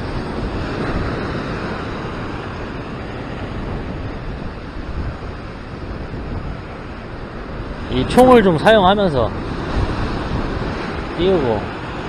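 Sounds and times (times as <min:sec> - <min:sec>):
surf washing over rocks: 0:00.0 - 0:12.0
wind on microphone: 0:00.0 - 0:12.0.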